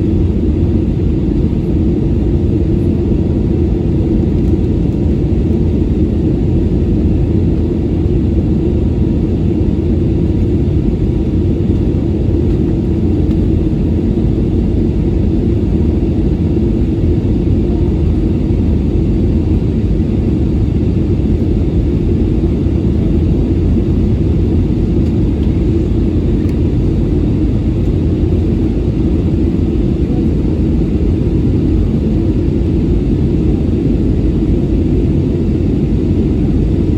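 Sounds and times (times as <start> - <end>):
aircraft cabin engine rumble: 0.0 - 36.9.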